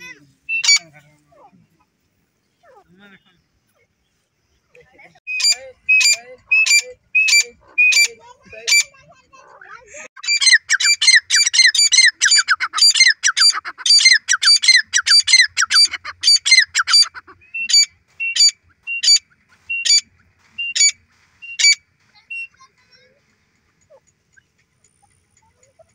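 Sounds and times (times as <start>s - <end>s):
francolins calling: 0.0s - 1.6s, 5.3s - 25.9s.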